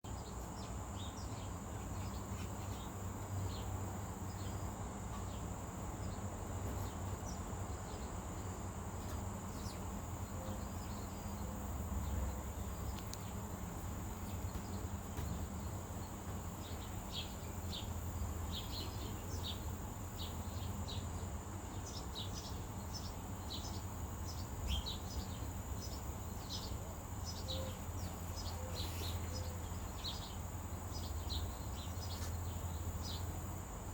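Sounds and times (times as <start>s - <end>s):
high insect drone: 0.2s - 33.9s.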